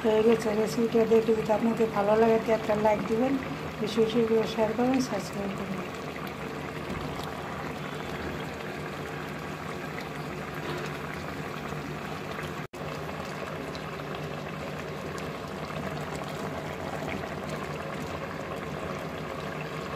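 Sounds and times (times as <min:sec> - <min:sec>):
curry bubbling in a pot: 0:00.0 - 0:19.9.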